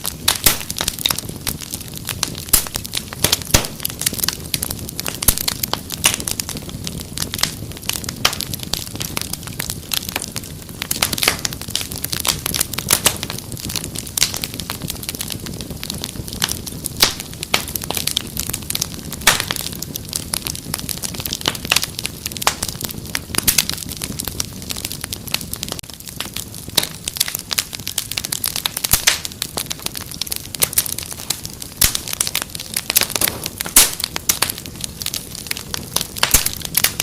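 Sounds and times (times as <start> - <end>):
low rumble of burning: 0.0 - 37.0
wood fire crackling and popping: 0.0 - 37.0.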